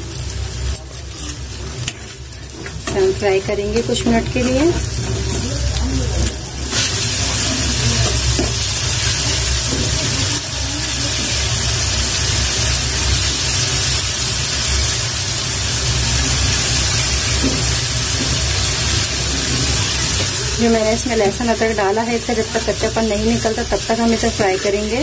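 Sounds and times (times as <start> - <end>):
masala sizzling in oil: 0.0 - 25.0.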